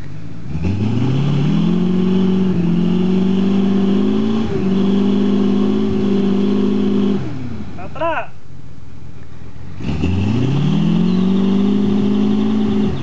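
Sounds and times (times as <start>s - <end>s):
engine revving under load: 0.0s - 7.9s, 9.4s - 13.0s.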